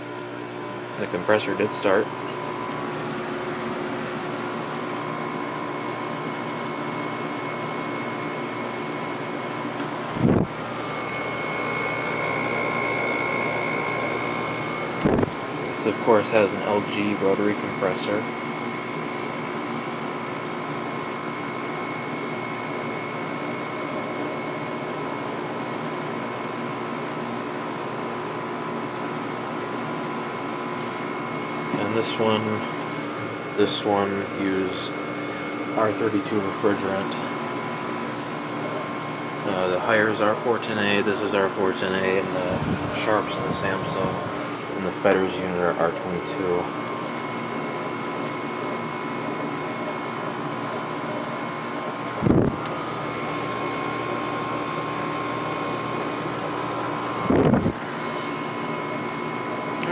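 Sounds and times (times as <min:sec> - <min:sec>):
air conditioner rushing air: 0:00.0 - 0:59.9
compressor hum and whine: 0:00.0 - 0:59.9.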